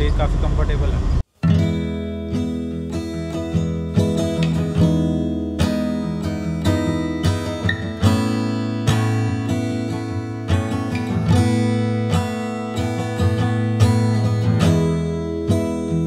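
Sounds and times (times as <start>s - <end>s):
strummed acoustic guitar chords: 1.3s - 16.0s.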